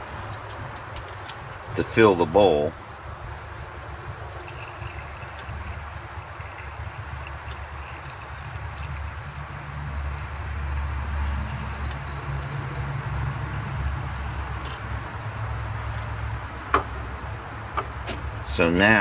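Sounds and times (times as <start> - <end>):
gasoline trickling through a funnel: 0.0 - 16.6.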